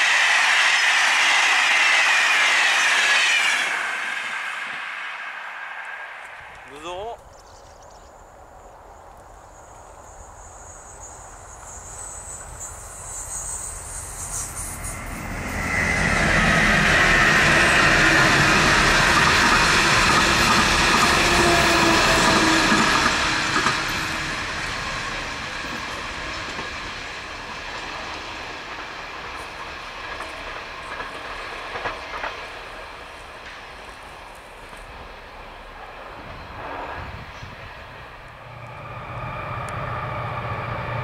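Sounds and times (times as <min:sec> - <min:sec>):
diesel train passing: 0:00.0 - 0:07.3, 0:08.1 - 0:41.0.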